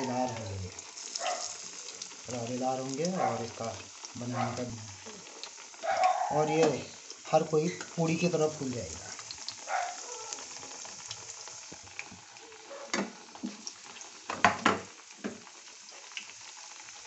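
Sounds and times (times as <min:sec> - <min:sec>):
deep-frying in hot oil: 0:00.0 - 0:17.0.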